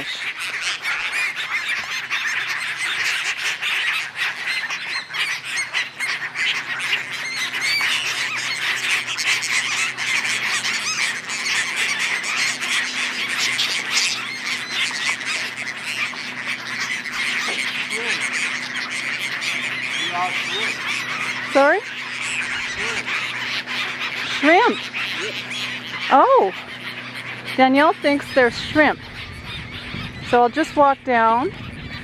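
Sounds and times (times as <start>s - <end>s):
gulls squawking: 0.0s - 32.0s.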